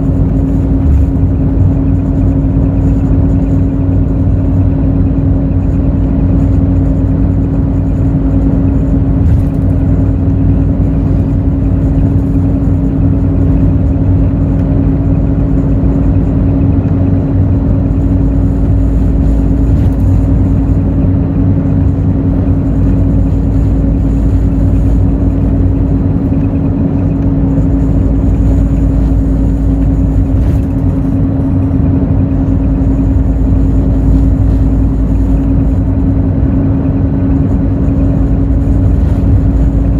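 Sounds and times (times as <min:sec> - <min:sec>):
bus diesel engine hum: 0:00.0 - 0:39.9
road noise: 0:00.0 - 0:39.9.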